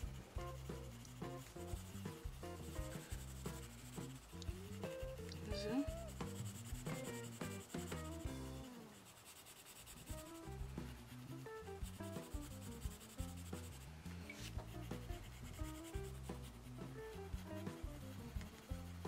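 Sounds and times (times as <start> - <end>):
soft background music: 0.0 - 9.0, 9.9 - 19.0
pencil rubbing on paper: 0.0 - 19.0.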